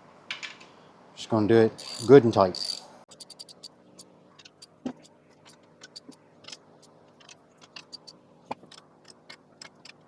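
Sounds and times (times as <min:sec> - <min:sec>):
ratchet clicking: 0:01.8 - 0:10.0.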